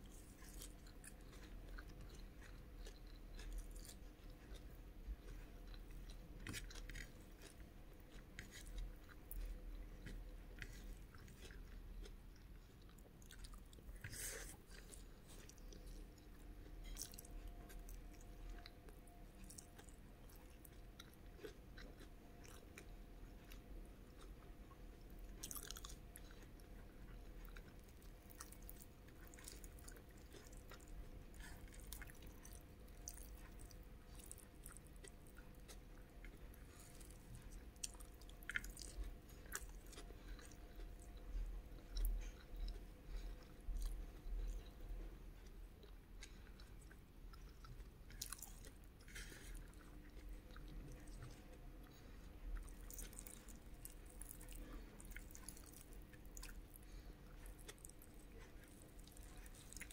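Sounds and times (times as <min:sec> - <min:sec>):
chewing soft food: 0:00.0 - 0:59.9
faint background hum: 0:00.0 - 0:59.9.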